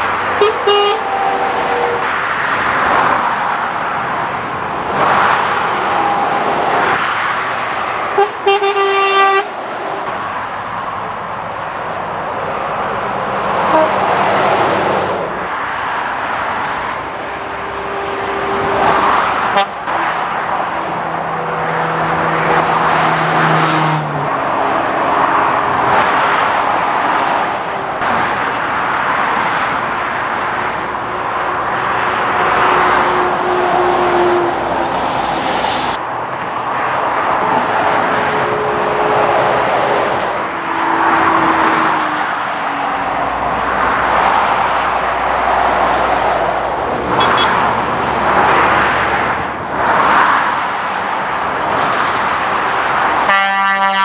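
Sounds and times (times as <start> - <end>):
vehicles passing at speed: 0.0 - 54.0.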